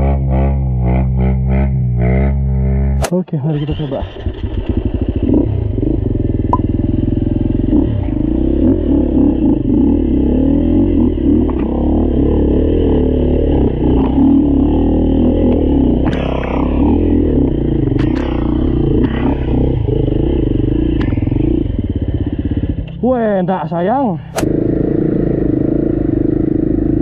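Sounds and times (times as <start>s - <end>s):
dirt bike engine revving: 0.0s - 23.4s, 24.2s - 27.0s.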